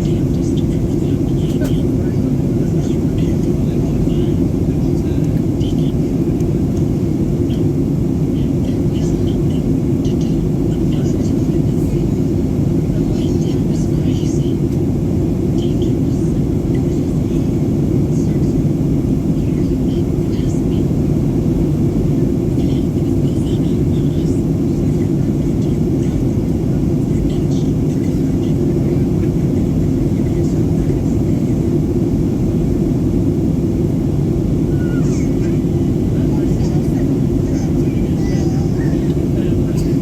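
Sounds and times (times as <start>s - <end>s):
airplane cabin engine rumble: 0.0s - 40.0s.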